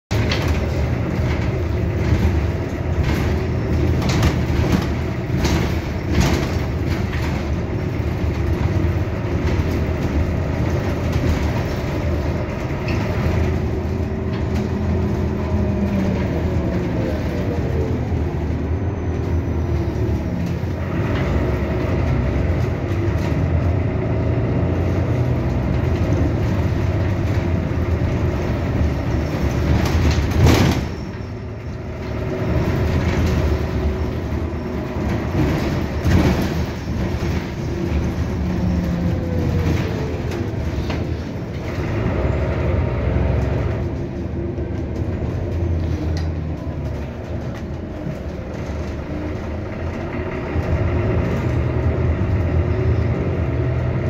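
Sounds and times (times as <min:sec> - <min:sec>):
bus engine and road rumble: 0:00.0 - 0:54.0
interior rattles: 0:00.1 - 0:17.8, 0:19.7 - 0:54.0.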